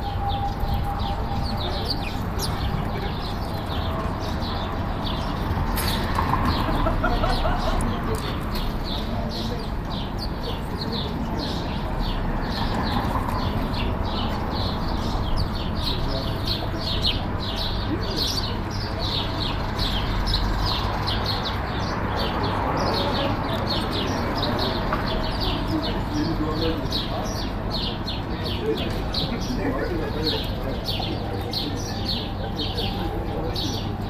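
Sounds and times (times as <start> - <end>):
sparrows chirping: 0.0 - 34.0.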